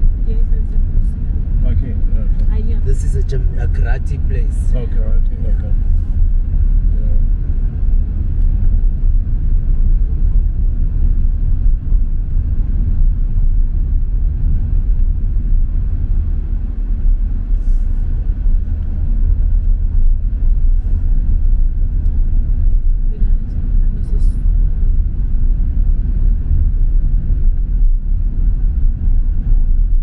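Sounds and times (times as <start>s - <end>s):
car cabin road and engine noise: 0.0s - 30.0s.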